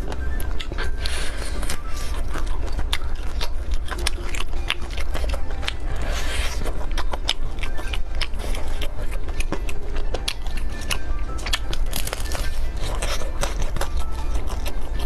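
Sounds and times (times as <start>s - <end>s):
chewing and biting meat: 0.0s - 15.0s.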